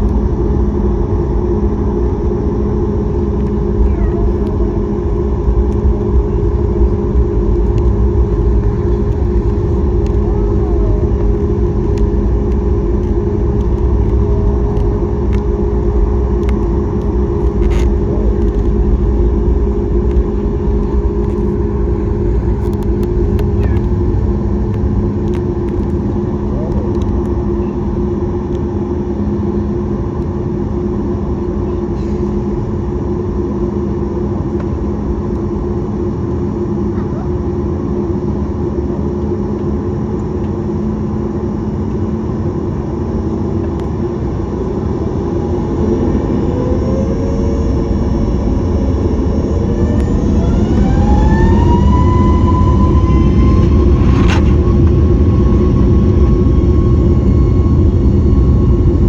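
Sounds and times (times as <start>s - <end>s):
jet engines spooling up: 0.1s - 59.0s.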